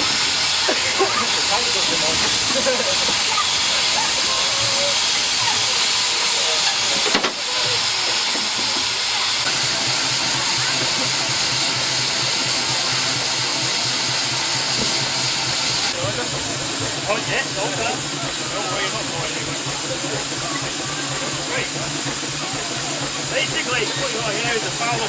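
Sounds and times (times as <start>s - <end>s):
loud steam hiss: 0.0s - 25.0s.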